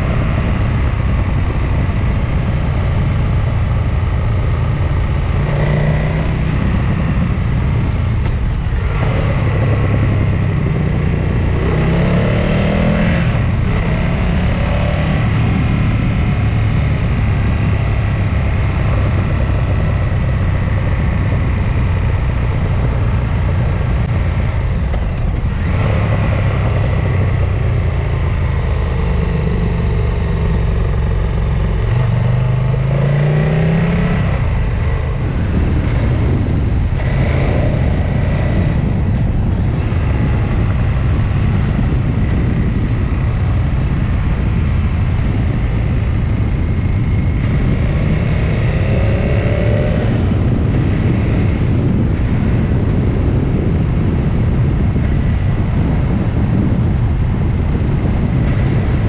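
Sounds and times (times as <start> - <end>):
engine revving: 0.0 - 56.9
wind and road noise: 0.0 - 59.0.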